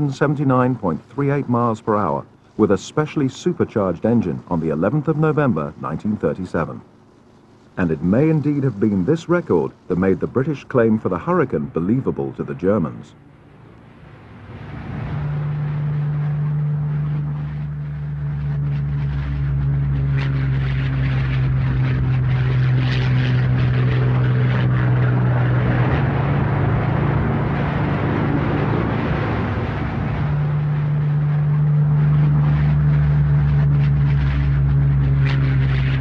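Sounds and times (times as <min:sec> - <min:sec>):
propeller plane engine drone: 0:00.0 - 0:36.0.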